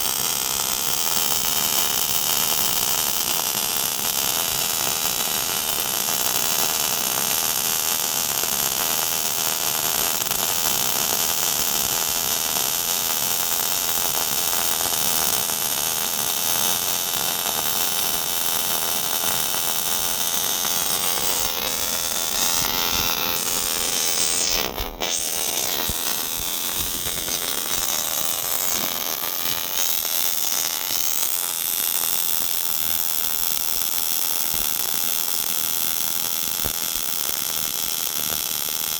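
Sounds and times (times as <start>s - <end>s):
welding arc hissing: 0.0s - 38.9s.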